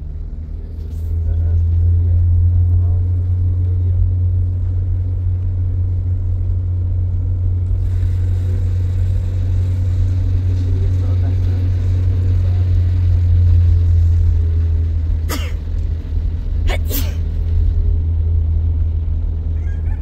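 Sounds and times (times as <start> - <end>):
car engine and road drone: 0.0 - 20.0.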